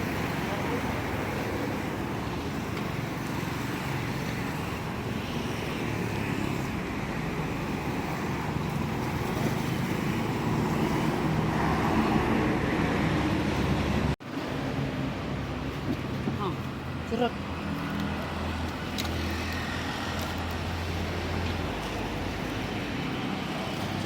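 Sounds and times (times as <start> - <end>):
passing traffic: 0.0 - 24.0.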